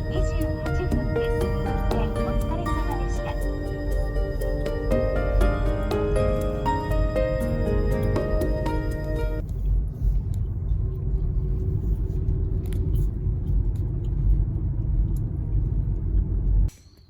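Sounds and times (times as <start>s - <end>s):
steady low rumble: 0.0s - 16.7s.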